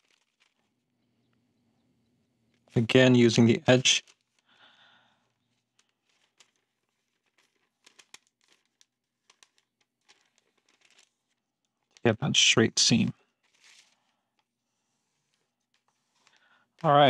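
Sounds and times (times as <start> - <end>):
paper rustling and crinkling: 0.0 - 1.0, 2.5 - 17.0.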